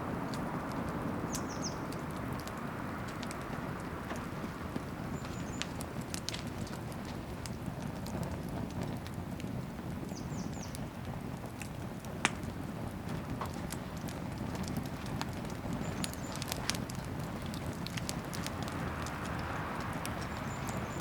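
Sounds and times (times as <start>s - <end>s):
fire crackling and popping: 0.0s - 21.0s
rush of fire flames: 0.0s - 21.0s.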